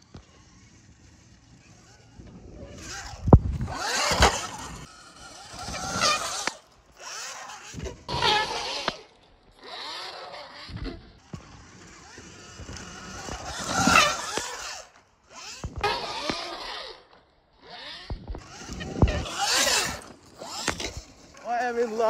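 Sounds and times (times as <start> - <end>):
tyre and wind noise: 0.0 - 16.9, 17.7 - 21.5
electric motorbike motor whining: 0.0 - 22.0
sharp thumps: 2.1 - 17.0, 17.7 - 21.4.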